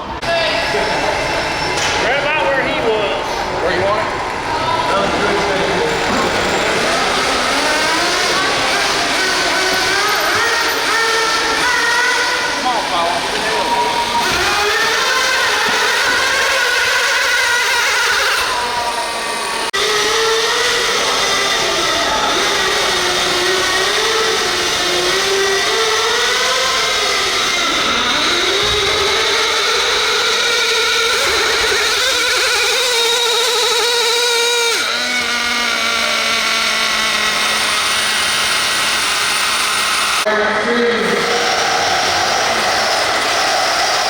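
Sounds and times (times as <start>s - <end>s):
rc vehicle motors whining: 0.0s - 44.0s.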